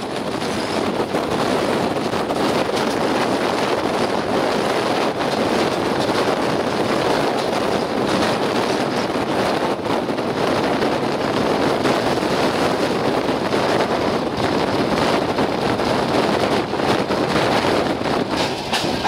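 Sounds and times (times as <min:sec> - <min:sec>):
passenger train running on track: 0:00.0 - 0:19.0
wind rushing over microphone: 0:00.0 - 0:19.0.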